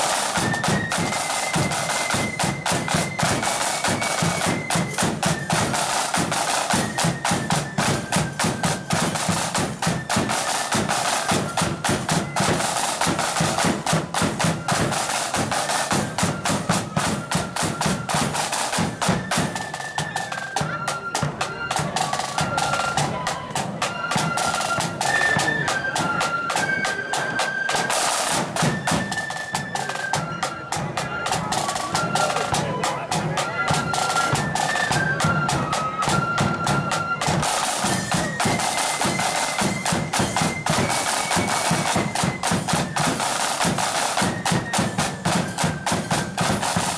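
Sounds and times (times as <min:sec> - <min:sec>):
high held melody: 0:00.0 - 0:46.9
marching snare and bass drums: 0:00.0 - 0:46.9.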